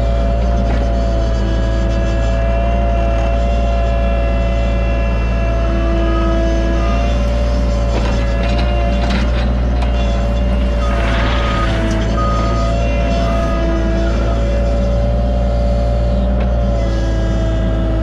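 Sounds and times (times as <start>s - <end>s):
mini excavator engine drone: 0.0s - 18.0s.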